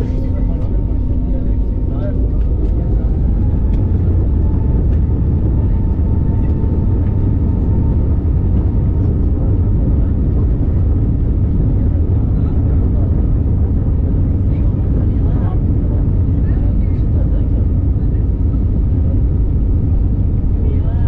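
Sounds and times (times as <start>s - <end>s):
airliner engines and wheels rumbling: 0.0s - 21.0s
thin engine whine: 0.0s - 21.0s.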